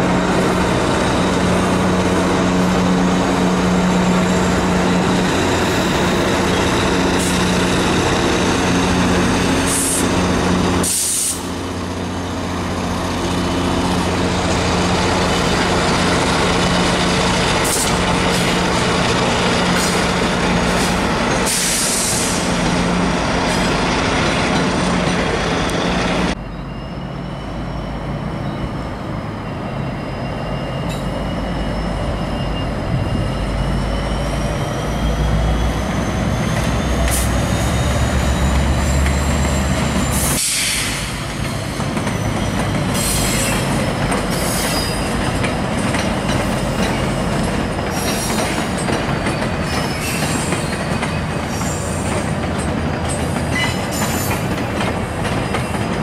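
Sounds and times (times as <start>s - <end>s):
train wheels squealing: 2.8s - 56.0s.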